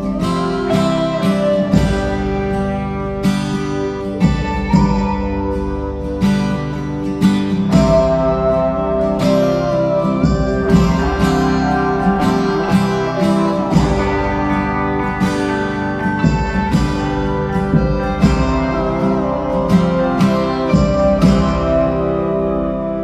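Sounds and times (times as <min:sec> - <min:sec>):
guitar-led background music: 0:00.0 - 0:23.0.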